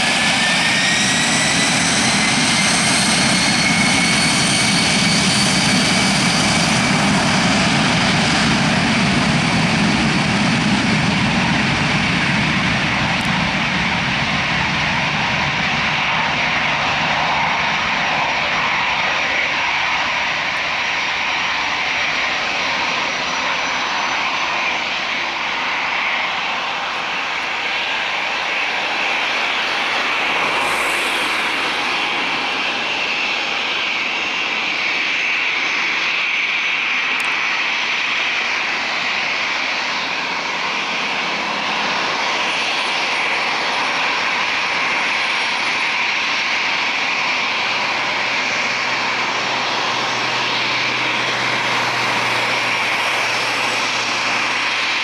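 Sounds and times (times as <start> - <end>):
jet engines at takeoff power: 0.0 - 55.0.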